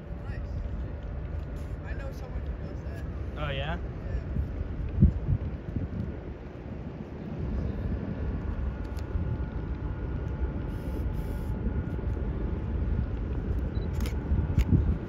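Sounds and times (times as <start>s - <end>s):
ship engine rumble: 0.0s - 15.0s.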